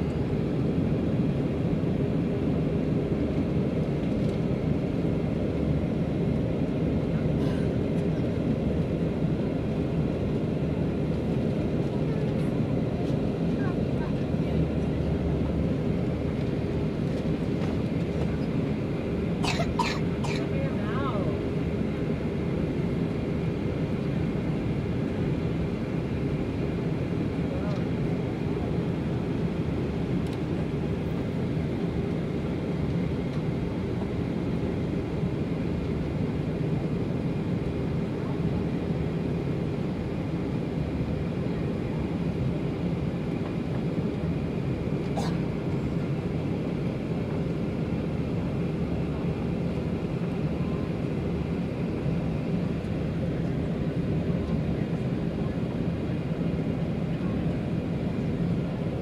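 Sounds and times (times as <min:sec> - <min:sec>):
jet airliner cabin noise: 0:00.0 - 0:59.0.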